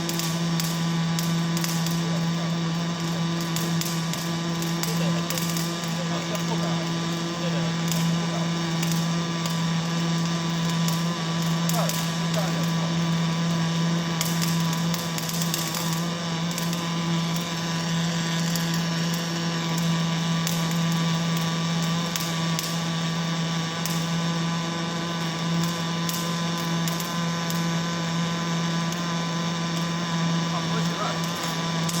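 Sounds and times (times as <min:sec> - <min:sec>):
machine hum: 0:00.0 - 0:21.8, 0:27.0 - 0:32.0.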